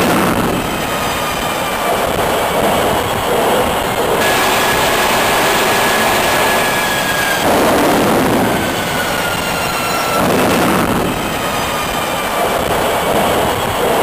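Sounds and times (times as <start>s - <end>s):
diesel engine running loudly: 0.0s - 14.0s
faint whines sliding down: 0.4s - 14.0s.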